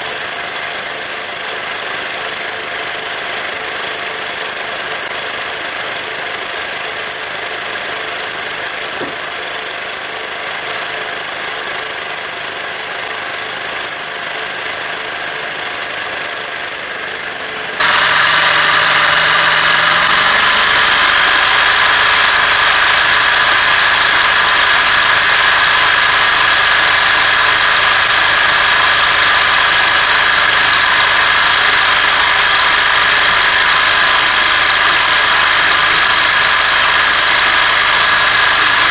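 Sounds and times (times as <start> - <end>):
sewing machine motor whining: 0.1 - 38.9.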